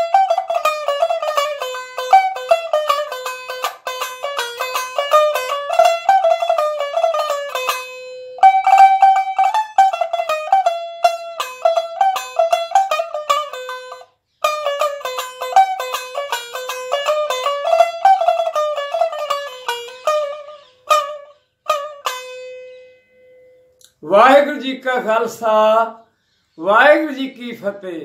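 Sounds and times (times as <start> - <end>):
plucked single-string lute: 0.0 - 23.7.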